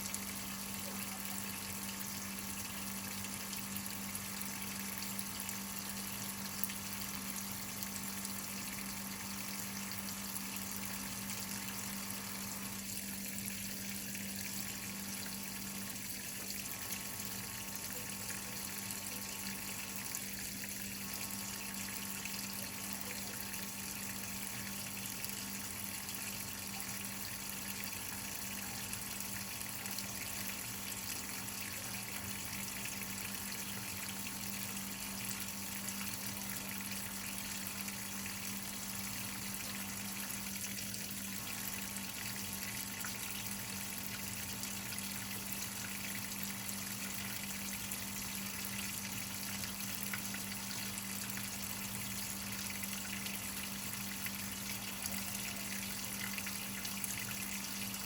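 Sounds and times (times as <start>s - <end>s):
water pouring into washing machine: 0.0s - 58.0s.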